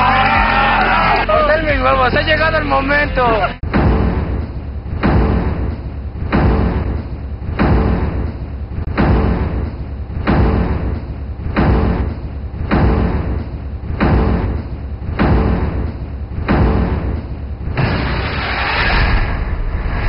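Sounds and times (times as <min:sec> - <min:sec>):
constant low rumble: 0:01.5 - 0:20.0
heavy booming hits: 0:03.6 - 0:20.0.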